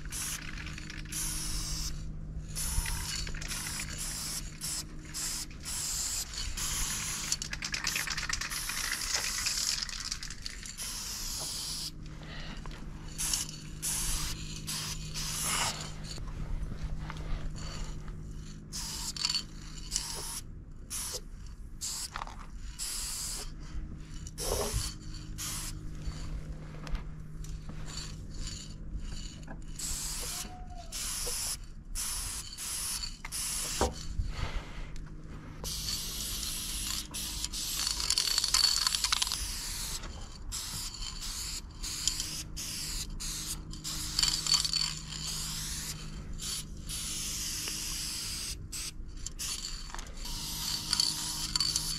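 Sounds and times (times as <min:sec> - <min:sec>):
spray paint can hissing: 0:00.0 - 0:12.0, 0:13.0 - 0:16.2, 0:18.7 - 0:21.2, 0:21.8 - 0:23.6, 0:24.3 - 0:26.2, 0:27.8 - 0:34.0, 0:35.6 - 0:51.9.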